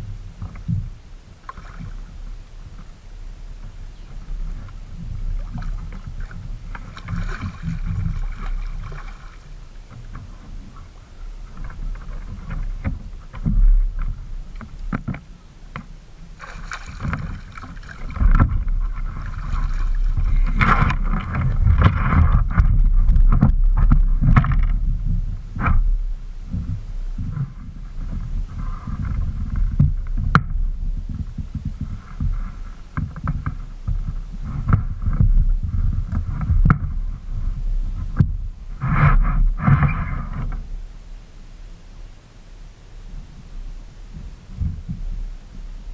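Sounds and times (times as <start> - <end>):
water sloshing around a kayak: 0.0 - 45.9
wind rumbling on microphone: 0.0 - 45.9.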